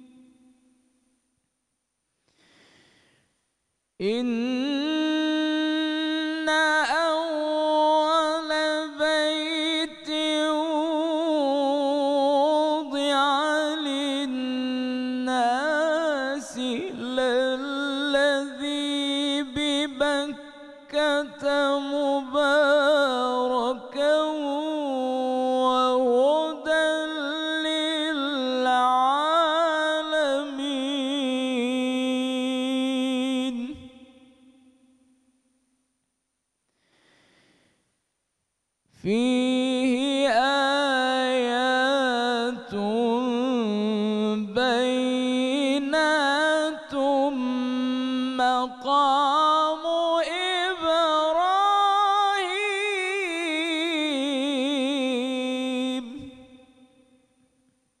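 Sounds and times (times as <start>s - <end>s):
man chanting: 0.0s - 0.6s, 4.0s - 35.0s, 38.9s - 57.2s.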